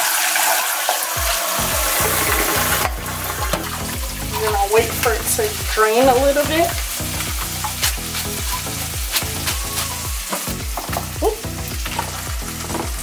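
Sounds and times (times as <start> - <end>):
chicken sizzling in a pan: 0.0 - 13.0
background music with low beat: 1.2 - 13.0.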